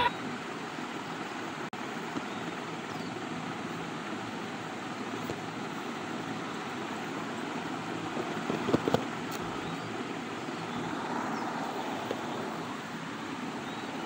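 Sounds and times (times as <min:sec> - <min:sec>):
steady rushing background noise: 0:00.3 - 0:14.0.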